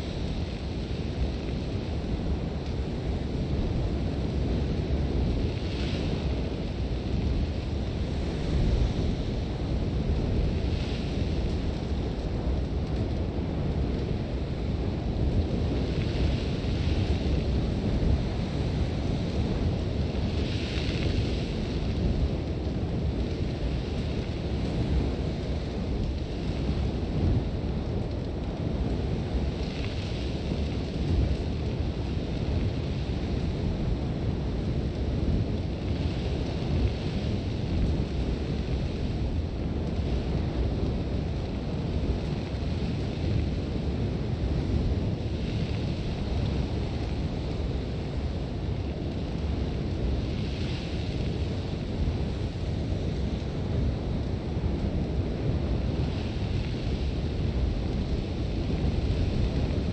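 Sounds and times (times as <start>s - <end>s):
wind rumbling: 0.0s - 59.9s.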